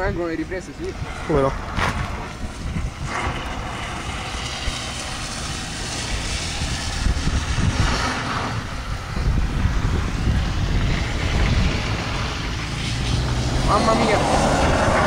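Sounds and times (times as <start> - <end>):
car engine revving: 0.6 - 15.0.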